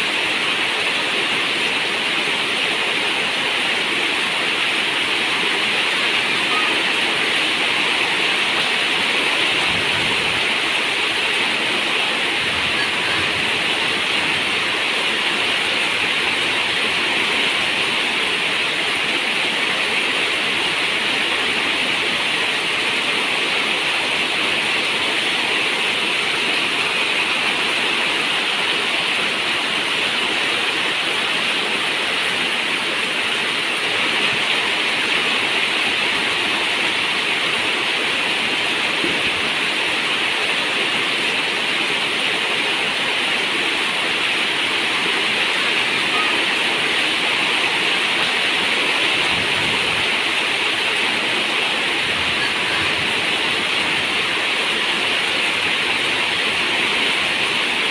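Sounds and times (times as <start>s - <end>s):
rain on a metal roof: 0.0s - 57.9s.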